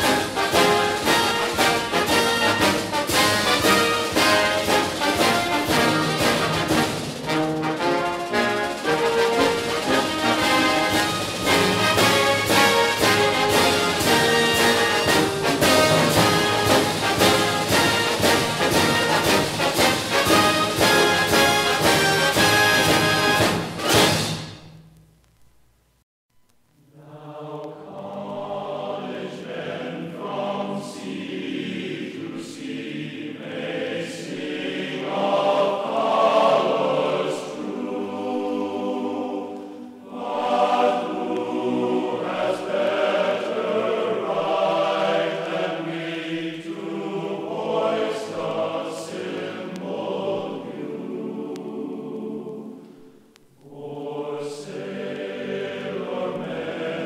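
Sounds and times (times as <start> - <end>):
choir singing sustained chords: 0.0 - 23.8, 26.9 - 57.0.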